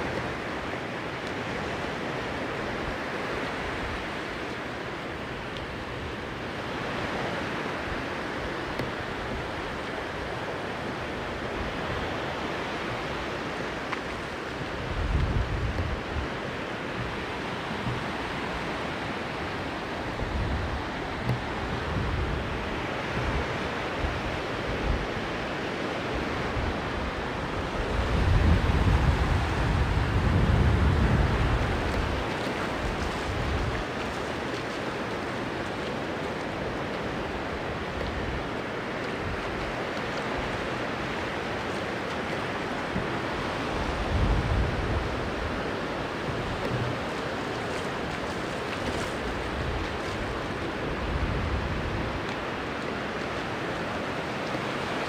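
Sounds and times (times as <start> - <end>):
sea surf washing onto beach: 0.0 - 55.0.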